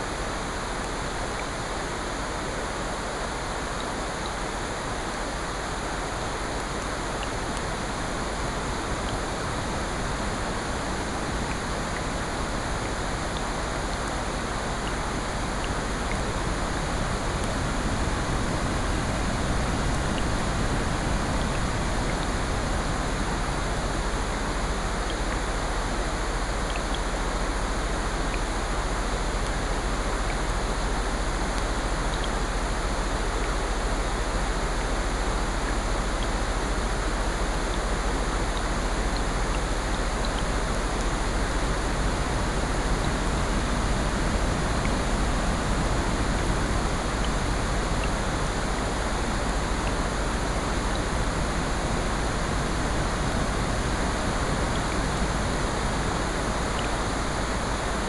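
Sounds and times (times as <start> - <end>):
rain and surf hiss: 0.0 - 58.0.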